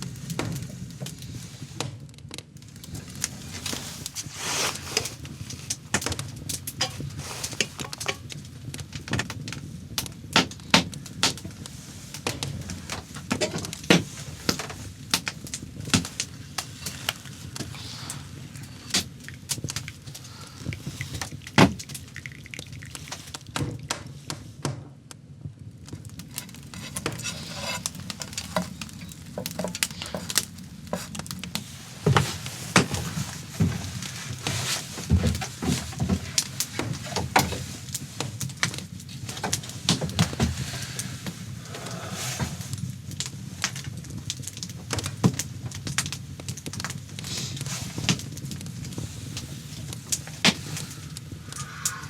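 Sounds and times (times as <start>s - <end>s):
sharp crackles and clicks: 0.0s - 41.7s, 42.6s - 52.0s.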